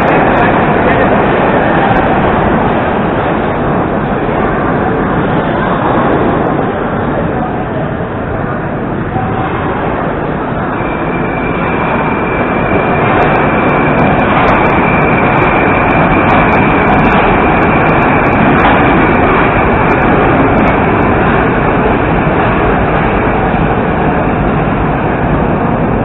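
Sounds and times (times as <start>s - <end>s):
metro train rumbling past: 0.0s - 26.0s
thin high whine: 0.0s - 26.0s.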